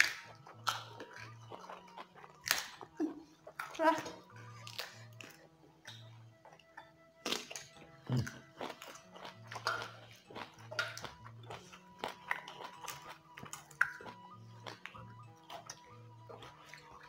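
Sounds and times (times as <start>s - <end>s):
crunchy bites and wet chewing: 0.0s - 17.0s
quiet background music: 0.0s - 17.0s.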